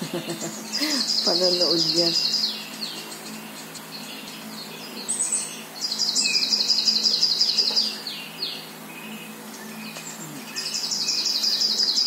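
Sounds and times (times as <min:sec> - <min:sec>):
songbird trilling: 0:00.0 - 0:12.0.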